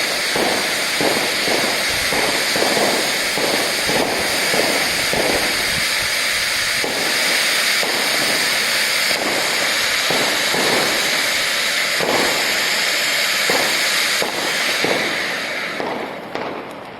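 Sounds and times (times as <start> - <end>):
fireworks hiss and crackle: 0.0 - 16.9
fireworks shots: 0.0 - 16.9.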